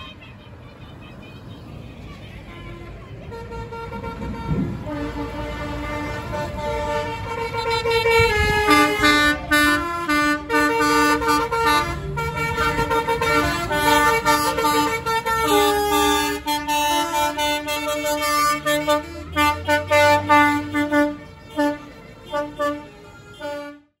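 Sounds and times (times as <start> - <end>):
diesel engine running: 0.0 - 23.6
musical air horn playing notes: 3.3 - 24.0.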